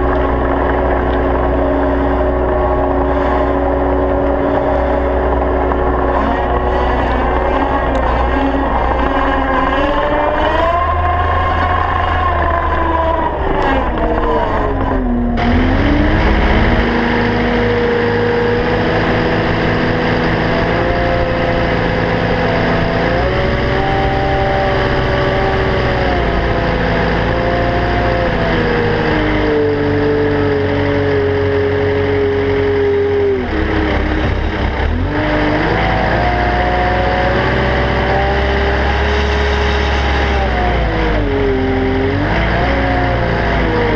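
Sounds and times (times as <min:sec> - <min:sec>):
track loader engine working: 0:00.0 - 0:43.9.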